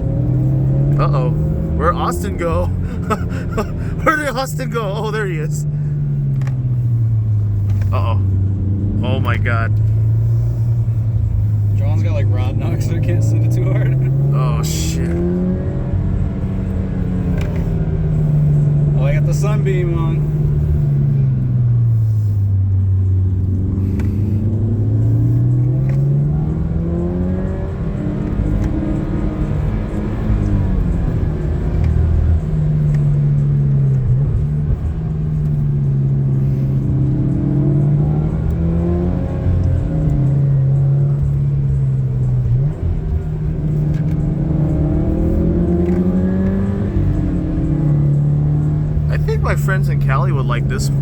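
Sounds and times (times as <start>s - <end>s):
car engine revving: 0.0s - 51.0s
road rumble: 0.0s - 51.0s.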